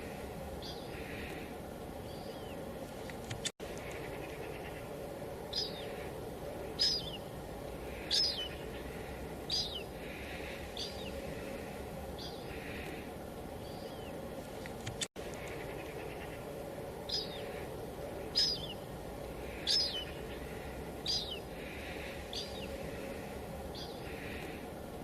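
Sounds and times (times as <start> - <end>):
light drizzle hissing: 0.0 - 25.0.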